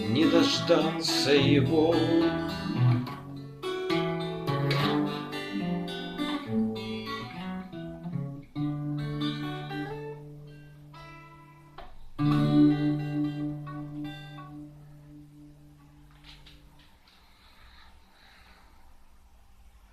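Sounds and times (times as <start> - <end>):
acoustic guitar strumming: 0.0 - 16.6.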